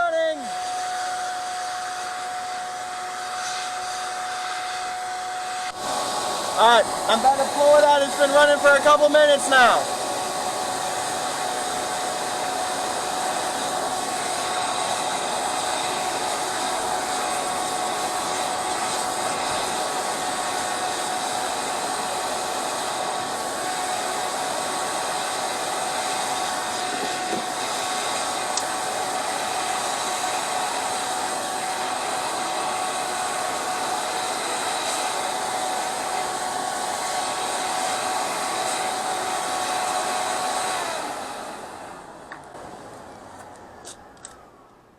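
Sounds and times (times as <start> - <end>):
forced air rushing through fire: 0.0 - 43.4
blower motor whine: 0.0 - 44.9.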